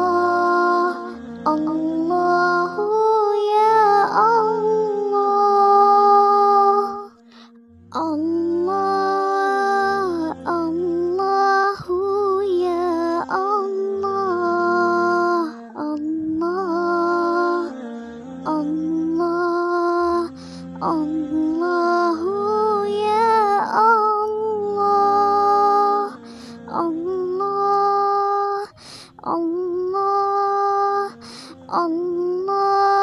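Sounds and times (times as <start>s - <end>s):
low pulsing accompaniment: 0.0s - 28.5s
person chanting melodically: 0.0s - 33.0s.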